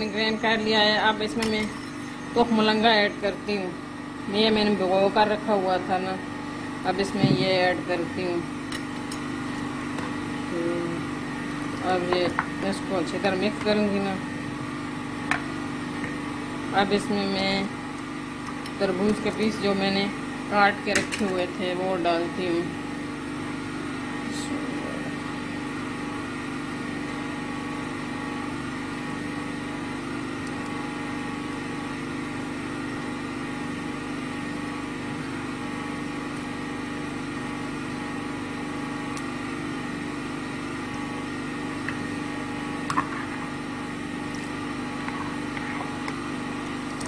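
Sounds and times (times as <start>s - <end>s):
generator engine humming: 0.0s - 47.0s.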